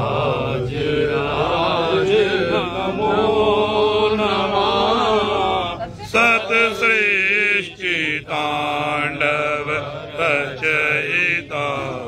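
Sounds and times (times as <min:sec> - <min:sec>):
person chanting a hymn: 0:00.0 - 0:12.0.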